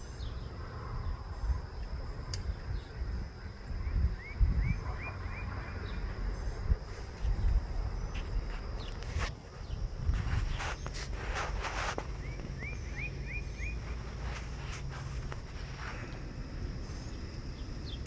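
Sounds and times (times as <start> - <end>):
high-pitched insect trill: 0.0 - 18.0
rising bird chirps: 2.5 - 18.0.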